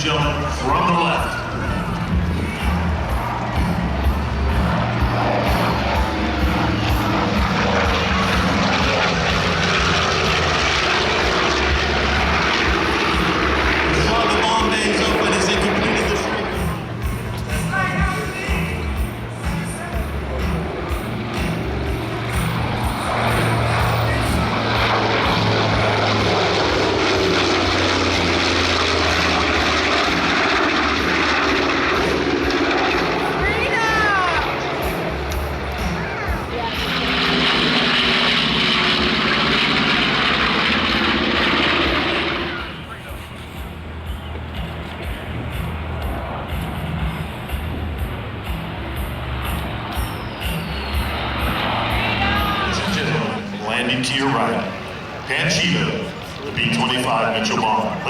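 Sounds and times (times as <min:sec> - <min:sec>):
propeller plane engines flying past: 0:00.0 - 0:58.0.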